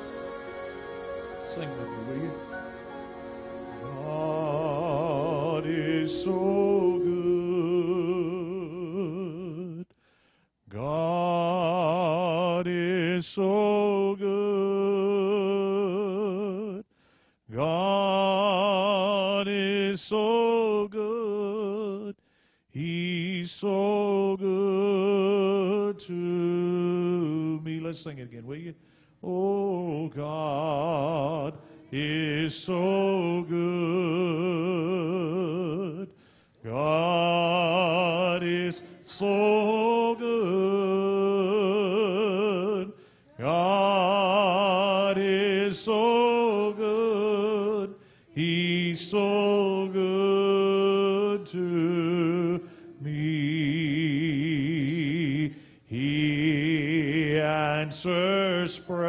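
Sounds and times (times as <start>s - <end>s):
man singing with vibrato: 0.0s - 9.9s, 10.7s - 16.9s, 17.5s - 59.0s.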